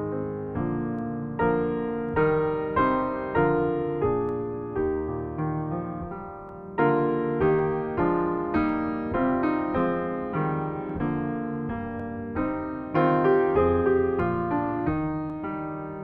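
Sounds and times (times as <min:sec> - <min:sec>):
grand piano playing chords: 0:00.0 - 0:16.0.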